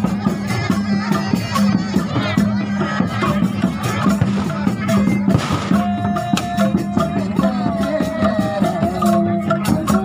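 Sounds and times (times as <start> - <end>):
hand drums beating quickly: 0.0 - 10.0.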